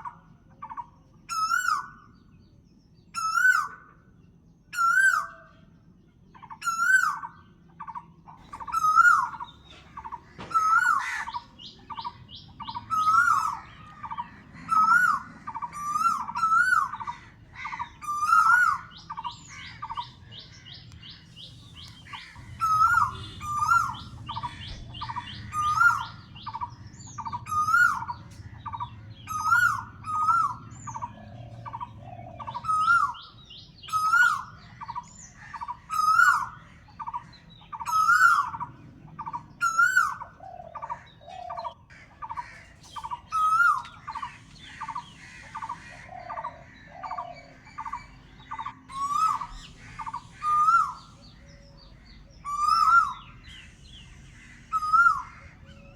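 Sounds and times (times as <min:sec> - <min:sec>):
birds chirping and twittering: 0:00.0 - 0:55.9
bird repeating rising and falling call: 0:06.4 - 0:55.9.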